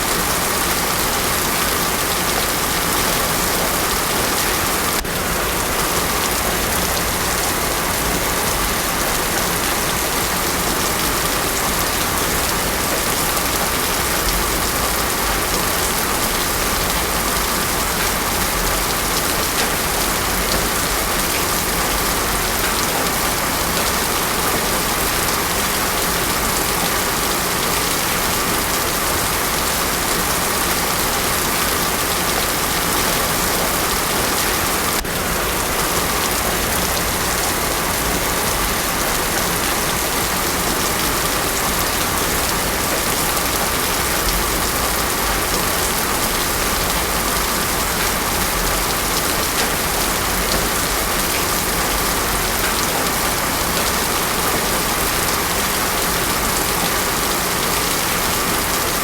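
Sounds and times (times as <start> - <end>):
heavy rain on a road: 0.0 - 59.0.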